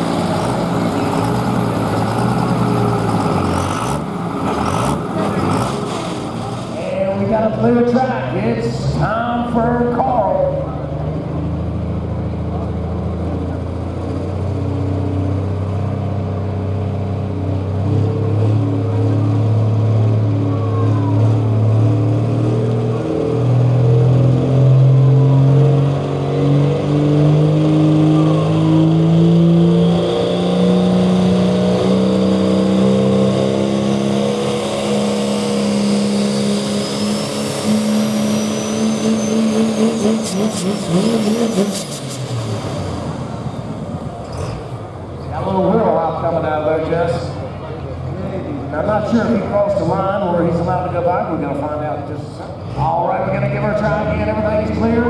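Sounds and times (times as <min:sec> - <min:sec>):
diesel engine at full load: 0:00.0 - 0:55.0
high turbo whine: 0:00.0 - 0:55.0.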